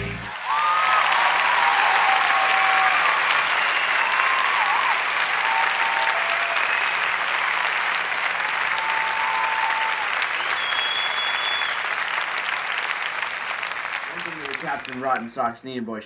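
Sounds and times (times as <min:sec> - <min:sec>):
audience applause: 0:00.0 - 0:15.5.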